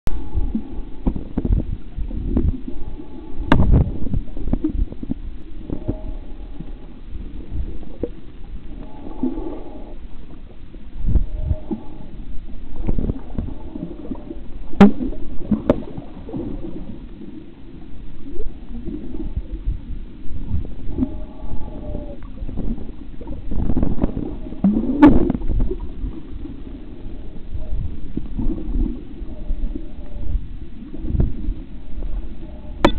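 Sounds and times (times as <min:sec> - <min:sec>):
water gurgling underwater: 0:00.1 - 0:32.9.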